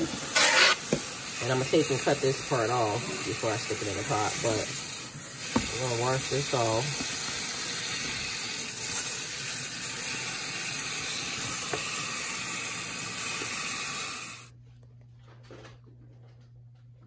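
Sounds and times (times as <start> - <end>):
faucet spray hissing: 0.0 - 14.5.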